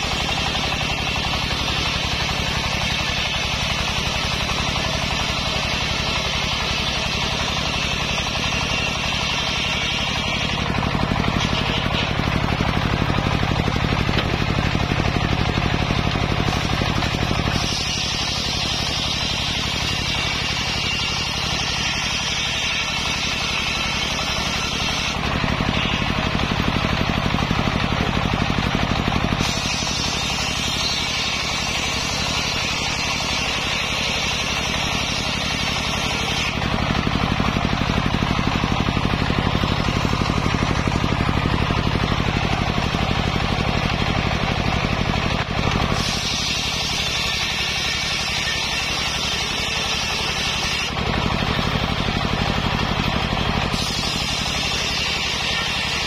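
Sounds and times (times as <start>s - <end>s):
circular saw cutting wood: 0.0s - 56.0s.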